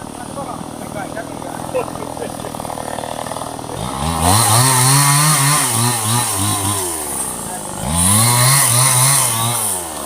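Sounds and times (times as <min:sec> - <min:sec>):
chainsaw revving cutting wood: 0:00.0 - 0:10.0.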